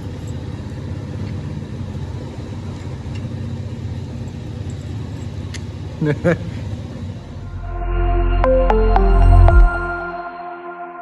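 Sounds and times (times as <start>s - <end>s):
engine rumbling: 0.0s - 10.2s.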